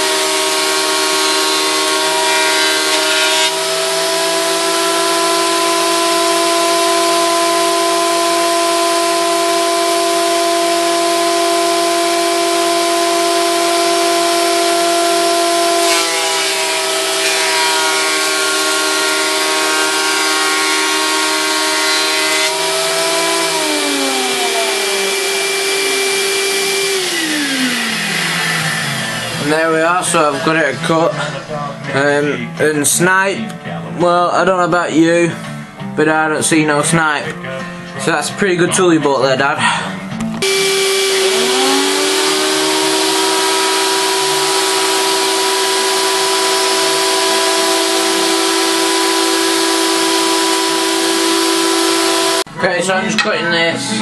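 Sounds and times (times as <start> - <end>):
planer motor whining: 0.0 - 31.4, 40.4 - 52.5
shop vac running: 0.0 - 32.7, 40.4 - 52.7.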